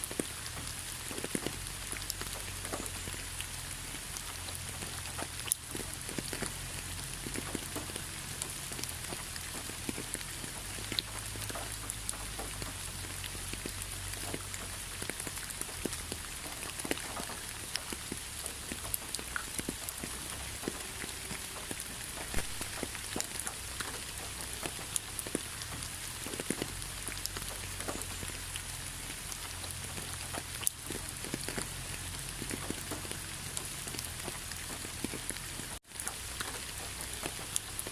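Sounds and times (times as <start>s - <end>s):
rain hissing: 0.0s - 37.9s
raindrops tapping on leaves: 0.0s - 37.9s.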